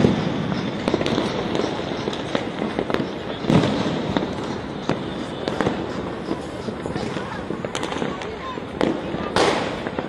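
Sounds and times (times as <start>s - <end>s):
fireworks and firecrackers banging: 0.0s - 10.0s.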